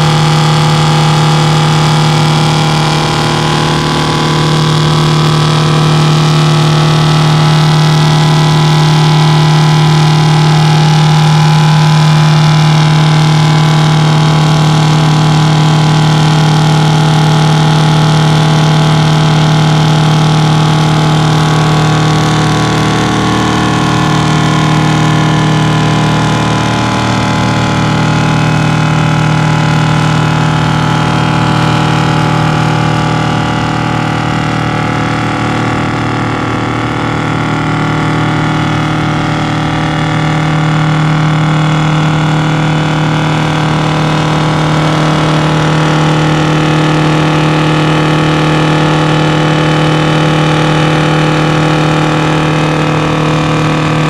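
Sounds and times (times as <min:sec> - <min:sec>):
diesel truck engine at high revs: 0:00.0 - 0:54.0.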